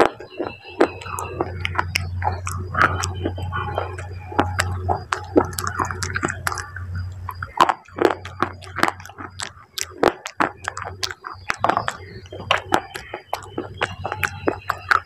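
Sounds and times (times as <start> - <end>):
crunching and chewing: 0.0 - 15.0
steady low hum: 0.0 - 15.0.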